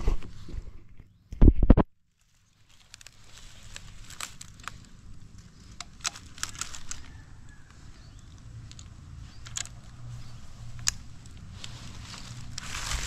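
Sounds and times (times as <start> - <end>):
low steady hum: 0.0 - 13.0
dry leaves crackling: 2.1 - 13.0.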